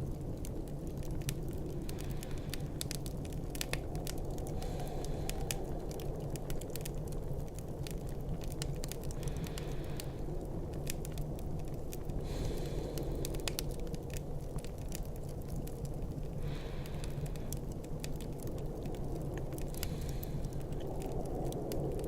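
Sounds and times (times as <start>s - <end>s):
fireplace crackling and popping: 0.0s - 22.0s
low rumble of storm wind: 0.0s - 22.0s.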